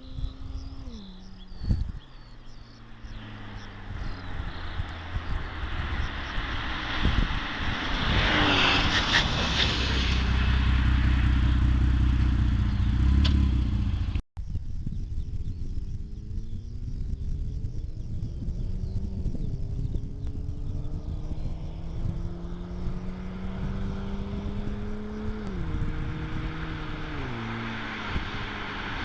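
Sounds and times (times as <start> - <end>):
car engine rumbling: 0.0 - 29.0.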